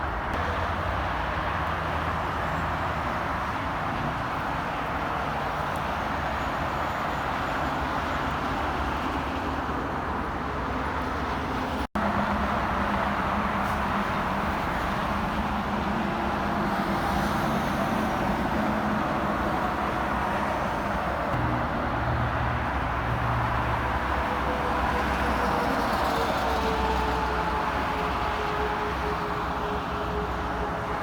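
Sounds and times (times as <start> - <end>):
highway traffic: 0.0 - 31.0.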